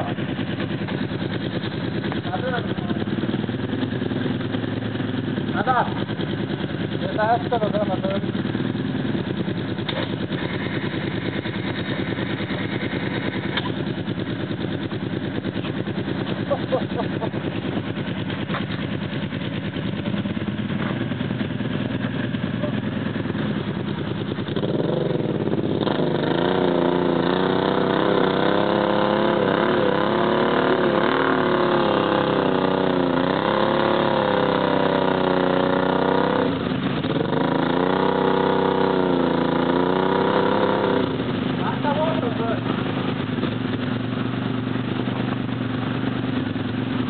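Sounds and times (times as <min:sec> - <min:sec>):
quad engine revving: 0:00.0 - 0:47.0.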